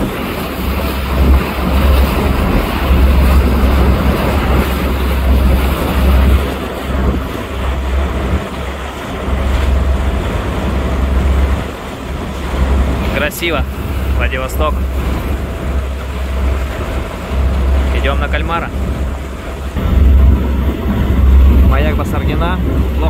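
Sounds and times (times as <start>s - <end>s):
motorboat engine: 0.0s - 23.0s
water rushing from hull: 0.0s - 23.0s
wind buffeting microphone: 0.0s - 23.0s.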